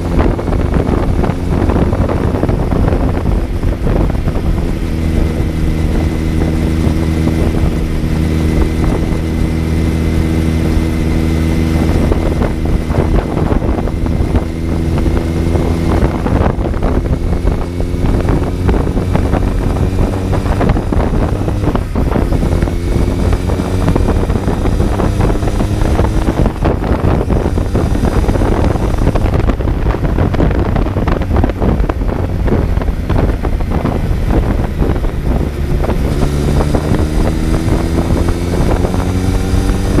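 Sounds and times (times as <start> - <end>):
motorcycle engine cruising: 0.0 - 40.0
rush of wind: 0.0 - 40.0.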